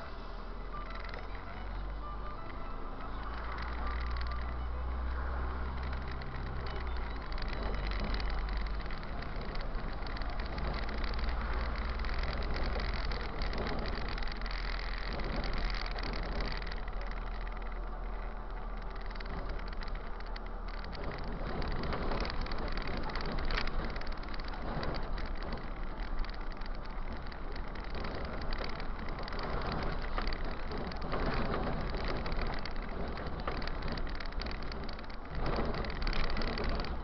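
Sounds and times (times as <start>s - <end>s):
bus engine drone: 0.0s - 37.0s
road noise hiss: 0.0s - 37.0s
rattles from bumps: 0.7s - 37.0s.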